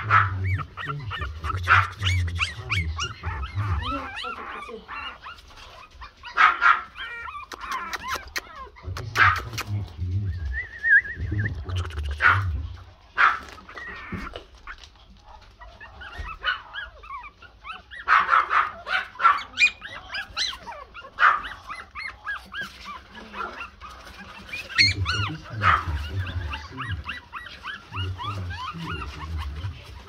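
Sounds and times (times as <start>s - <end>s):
puppies yipping: 0.0s - 30.0s.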